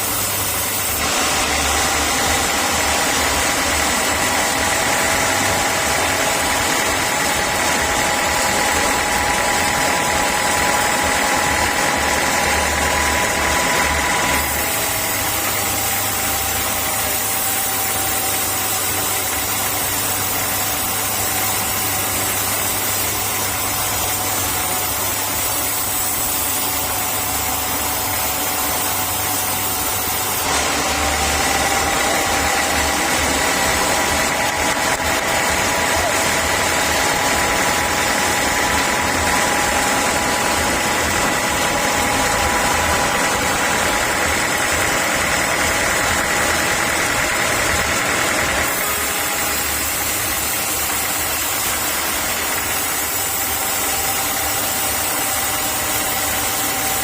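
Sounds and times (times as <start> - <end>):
sawmill saw whining: 0.0 - 57.0.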